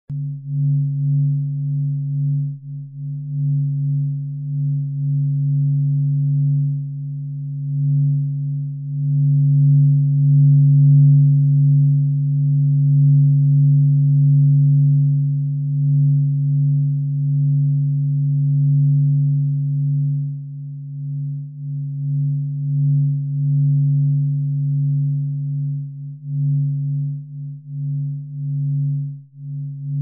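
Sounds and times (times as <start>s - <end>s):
low humming drone: 0.1s - 30.0s.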